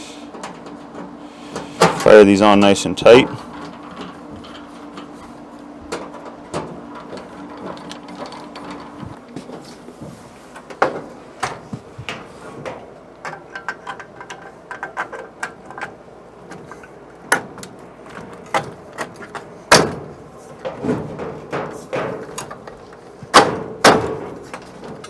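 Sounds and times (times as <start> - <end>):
sheet-metal panels clicking and rattling: 0.3 - 9.7, 10.6 - 25.0.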